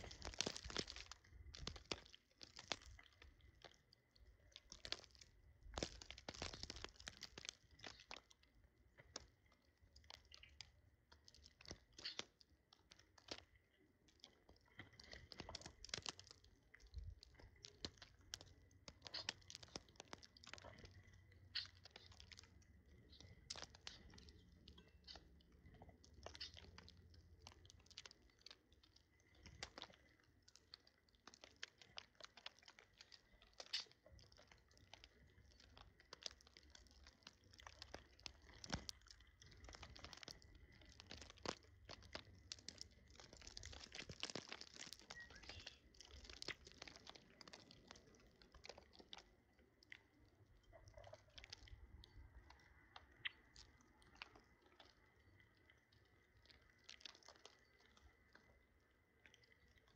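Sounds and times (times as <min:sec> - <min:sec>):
birds cracking seeds: 0:00.0 - 0:58.2.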